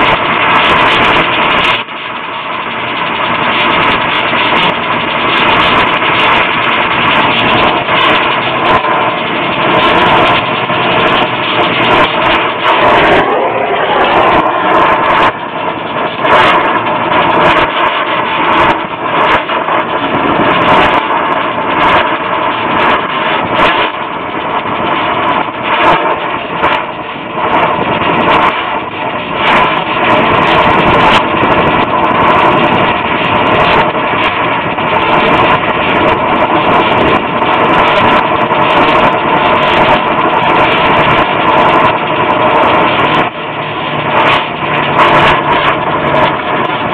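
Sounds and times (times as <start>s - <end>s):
torch flame hissing: 0.0s - 46.9s.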